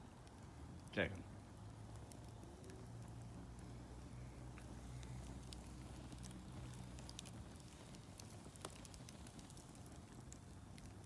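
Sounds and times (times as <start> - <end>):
low steady hum: 0.0 - 11.0
wood fire crackling and popping: 0.0 - 11.0.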